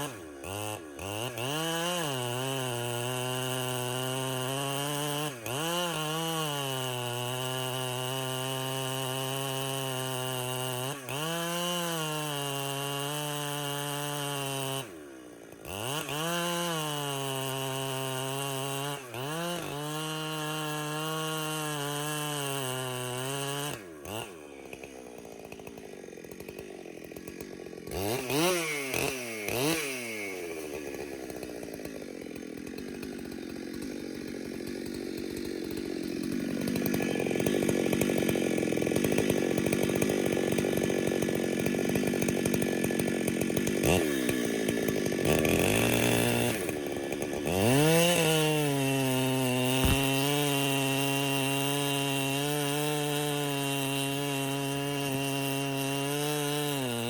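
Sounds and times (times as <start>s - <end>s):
chainsaw running at high throttle: 0.0s - 57.0s.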